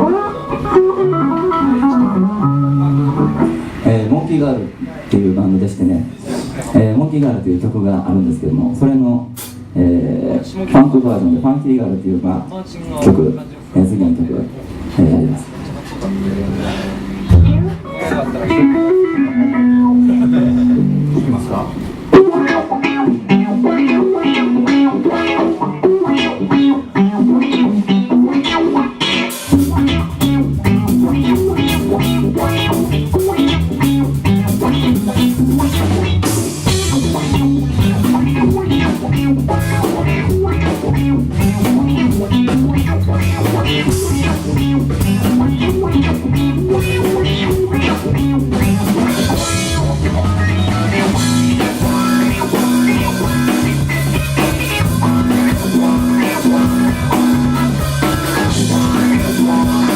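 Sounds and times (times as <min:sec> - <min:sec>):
drum kit: 0:00.0 - 0:03.9, 0:09.3 - 0:09.8, 0:15.9 - 0:59.9
bass guitar: 0:00.0 - 0:04.8, 0:15.7 - 0:59.9
electric guitar: 0:00.0 - 0:05.1, 0:14.6 - 0:59.9.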